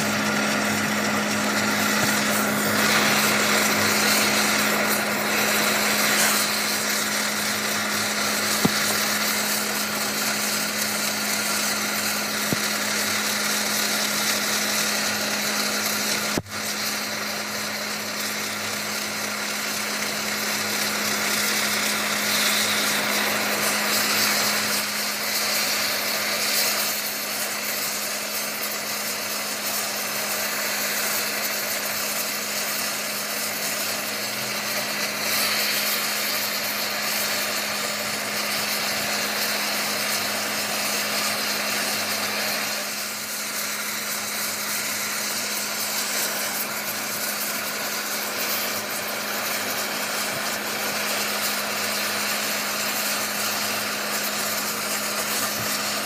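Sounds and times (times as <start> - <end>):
power tool grinding: 0.0 - 56.0.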